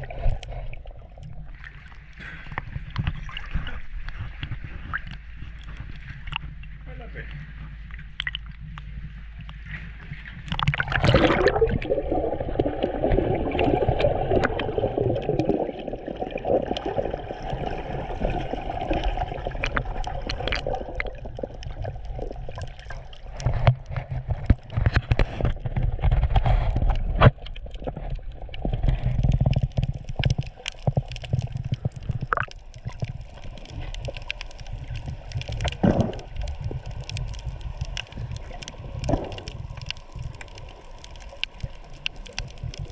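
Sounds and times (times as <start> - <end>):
underwater bubbling and gurgling: 0.0 - 42.9.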